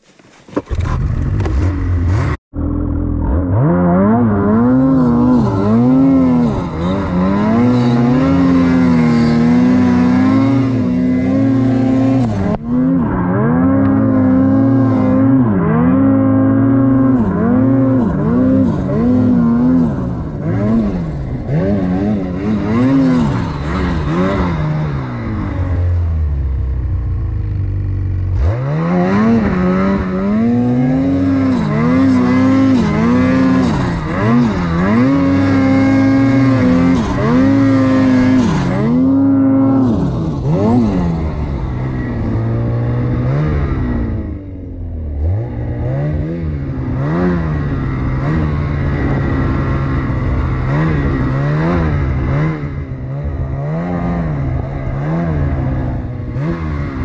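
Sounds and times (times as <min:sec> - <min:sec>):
snowmobile engine revving: 0:00.6 - 0:57.0.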